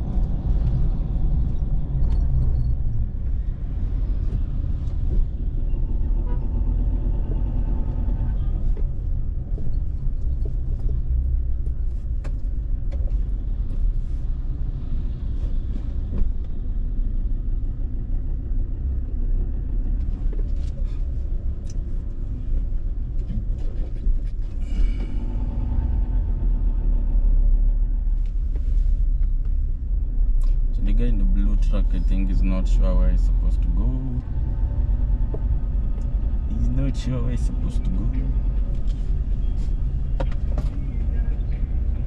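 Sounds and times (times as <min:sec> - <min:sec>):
car engine and tyres rumbling: 0:00.0 - 0:42.0.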